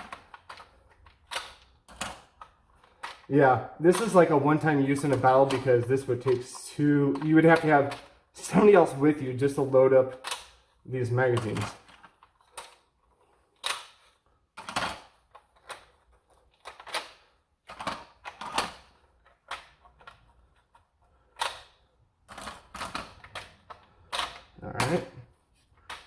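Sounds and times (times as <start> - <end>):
plastic clicks and clacks: 0.0 - 26.0.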